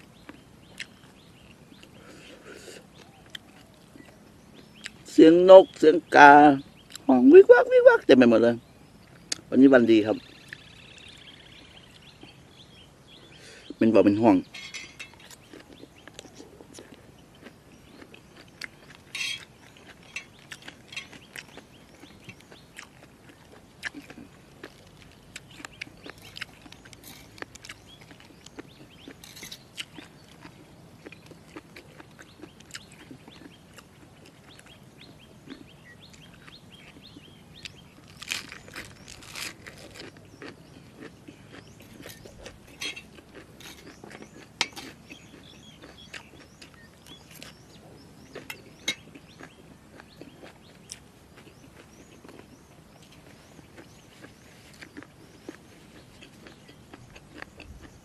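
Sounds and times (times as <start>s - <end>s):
chewing and crunching: 0.0s - 6.1s, 6.7s - 7.2s, 9.0s - 13.8s, 14.4s - 58.0s
small birds chirping: 0.0s - 58.0s.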